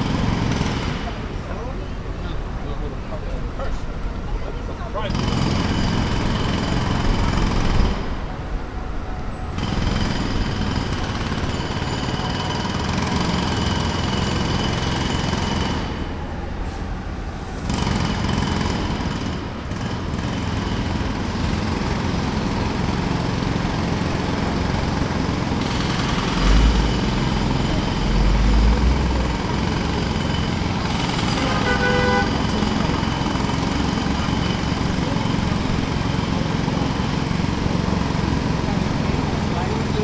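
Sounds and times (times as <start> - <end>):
jackhammer hammering: 0.0 - 1.7, 5.1 - 8.3, 9.6 - 16.4, 17.6 - 40.0.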